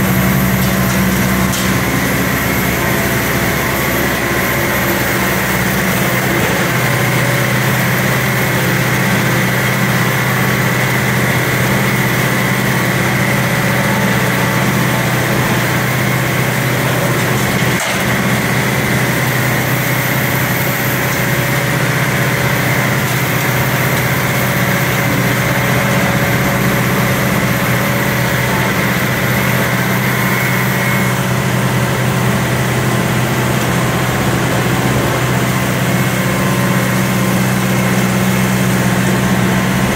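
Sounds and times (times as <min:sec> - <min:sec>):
straw chopper whining: 0:00.0 - 0:39.9
tractor engine running: 0:00.0 - 0:39.9.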